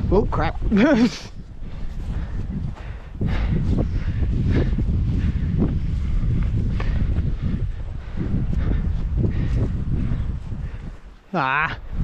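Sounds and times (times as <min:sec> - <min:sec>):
wind buffeting microphone: 0:00.0 - 0:12.0
footsteps walking uphill: 0:00.5 - 0:12.0.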